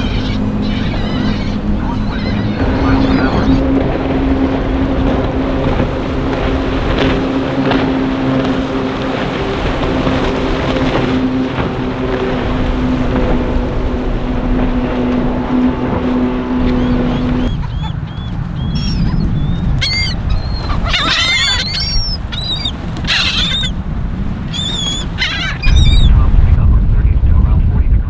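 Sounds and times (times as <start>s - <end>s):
birds chirping: 0.0s - 26.3s
motorboat engine humming: 0.0s - 28.0s
wind and water rumble: 0.0s - 28.0s.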